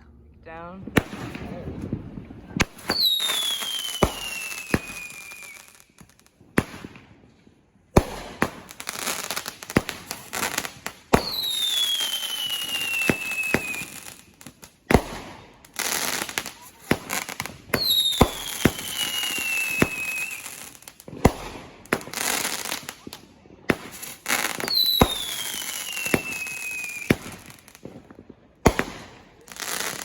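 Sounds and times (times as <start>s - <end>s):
fireworks bangs: 0.7s - 7.3s, 7.9s - 30.0s.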